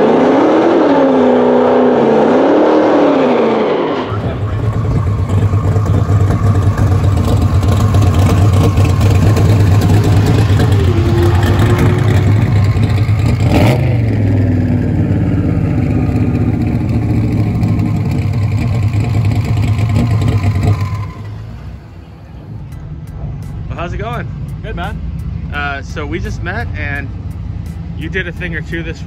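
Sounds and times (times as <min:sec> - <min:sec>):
truck engine deep rumble: 0:00.0 - 0:29.0.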